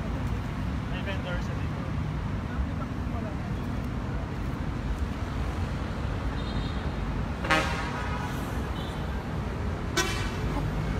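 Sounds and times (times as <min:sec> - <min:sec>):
city traffic rumble: 0:00.0 - 0:10.9.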